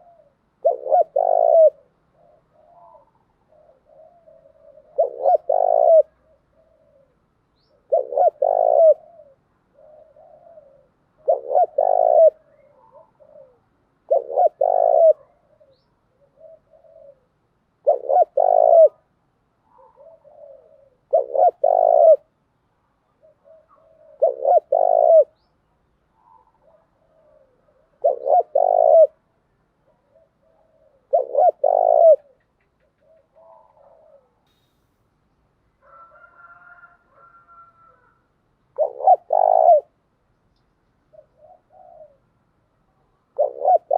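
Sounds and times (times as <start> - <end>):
dove cooing: 0.0 - 22.3, 23.1 - 25.5, 26.1 - 34.6, 35.8 - 40.0, 41.0 - 43.9.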